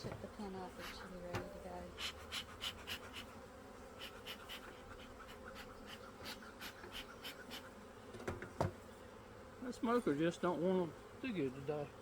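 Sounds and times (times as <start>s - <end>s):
bee smoker bellows puffing: 0.0s - 12.0s
honey bees buzzing: 0.0s - 12.0s.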